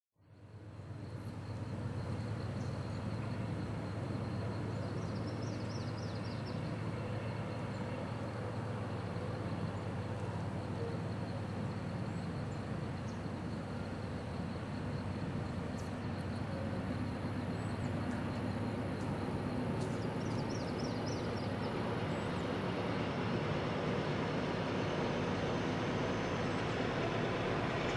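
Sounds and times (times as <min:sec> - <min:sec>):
distant diesel locomotive drone: 0:00.2 - 0:27.9.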